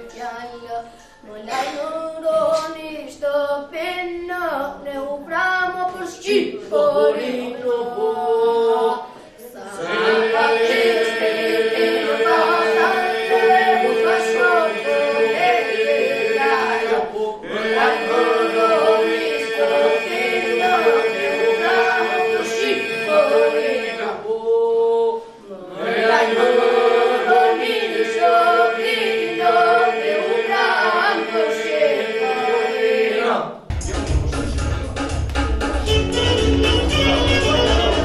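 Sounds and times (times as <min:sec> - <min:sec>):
boys singing unaccompanied: 0:00.0 - 0:35.1, 0:35.8 - 0:38.0.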